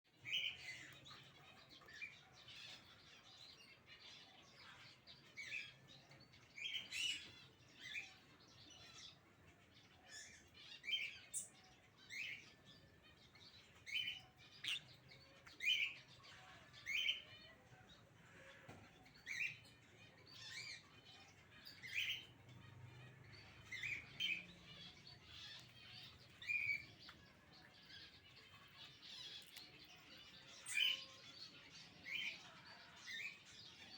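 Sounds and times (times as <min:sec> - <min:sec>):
parrots chirping: 0:00.2 - 0:17.6, 0:19.2 - 0:33.8.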